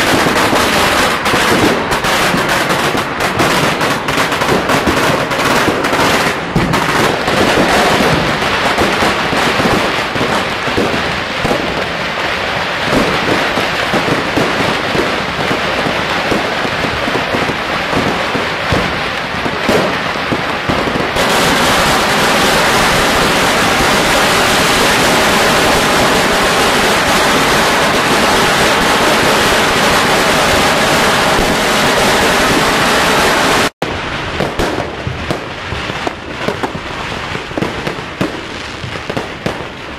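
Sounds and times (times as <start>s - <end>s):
firecrackers crackling: 0.0s - 39.9s
fireworks bangs: 0.0s - 39.9s.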